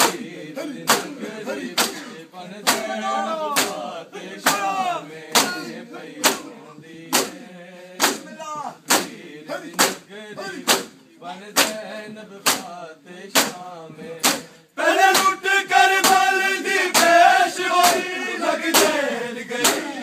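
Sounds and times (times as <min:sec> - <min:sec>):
men slapping chests in unison: 0:00.0 - 0:11.8, 0:12.4 - 0:20.0
men chanting a lament: 0:00.0 - 0:20.0.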